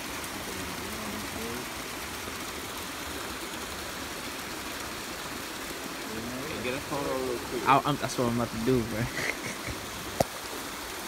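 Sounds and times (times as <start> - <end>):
waterfall cascading over rocks: 0.0 - 11.0.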